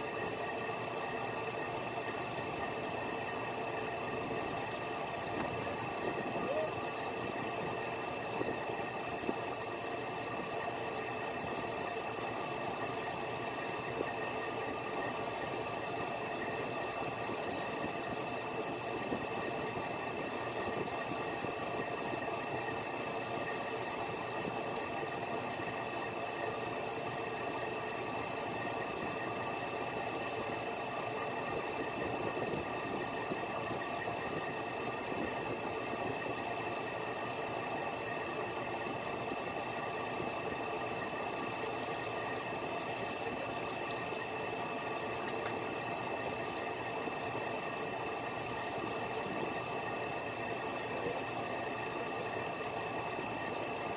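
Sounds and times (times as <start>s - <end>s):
boat engine droning: 0.0s - 53.9s.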